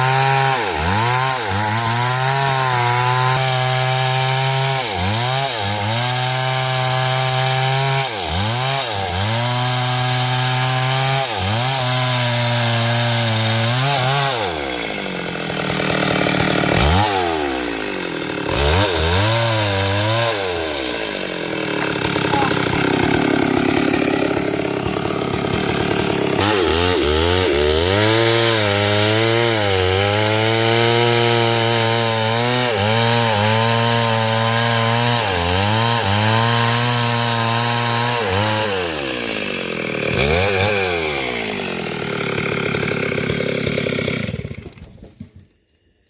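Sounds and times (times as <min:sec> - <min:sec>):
chainsaw cutting wood: 0:00.0 - 0:45.6.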